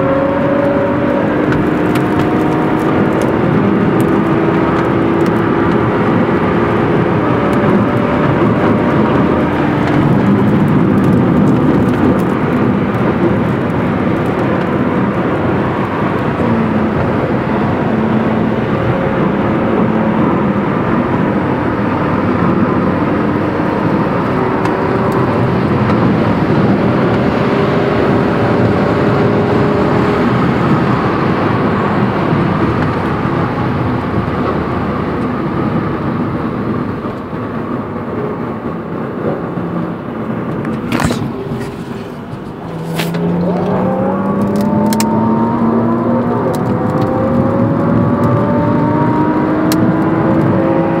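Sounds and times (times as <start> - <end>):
car engine inside cabin: 0.0 - 51.0
tyre road noise: 0.0 - 51.0.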